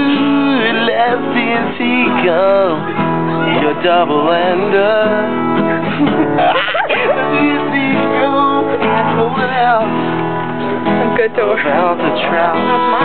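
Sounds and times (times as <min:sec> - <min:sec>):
man singing: 0:00.0 - 0:05.9, 0:06.5 - 0:10.2, 0:10.8 - 0:13.0
acoustic guitar strumming: 0:00.0 - 0:13.0.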